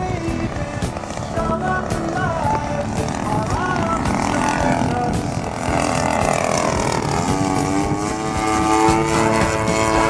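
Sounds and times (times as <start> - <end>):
model plane engine droning: 0.0 - 10.0.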